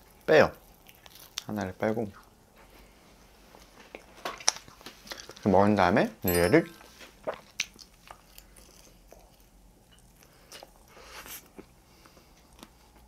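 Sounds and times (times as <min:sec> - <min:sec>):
man chewing food: 0:00.0 - 0:01.5, 0:02.2 - 0:05.4, 0:06.8 - 0:13.0.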